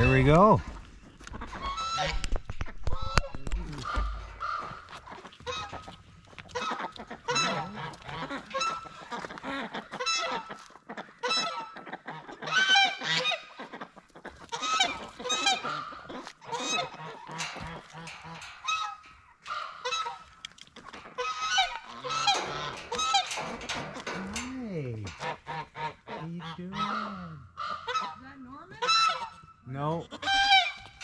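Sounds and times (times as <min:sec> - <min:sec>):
geese honking: 0:01.2 - 0:31.0.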